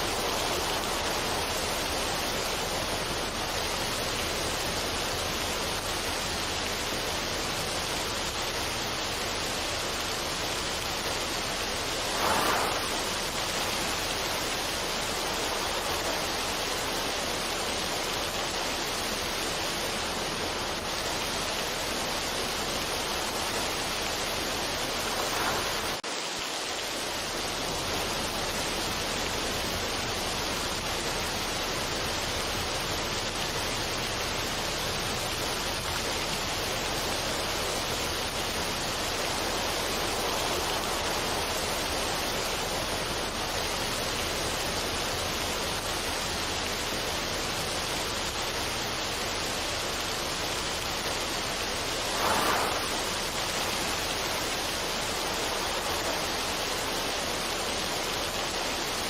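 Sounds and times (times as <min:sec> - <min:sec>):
steady rushing noise: 0:00.0 - 0:32.8, 0:33.4 - 0:59.0.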